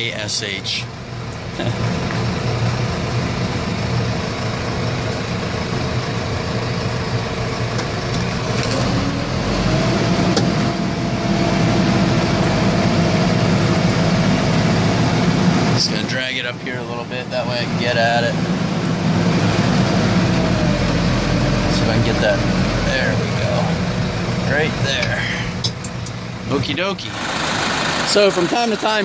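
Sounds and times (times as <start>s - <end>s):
diesel tractor engine running: 0.0s - 29.0s.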